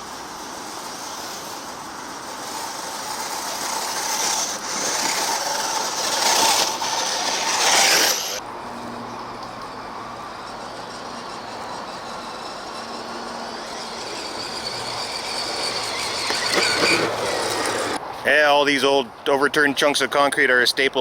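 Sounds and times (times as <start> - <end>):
rc truck electric motor whining: 0.0 - 18.0.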